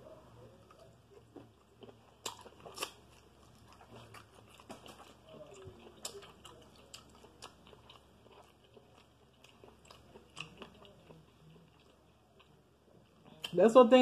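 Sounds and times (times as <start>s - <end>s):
person chewing: 0.6s - 13.5s.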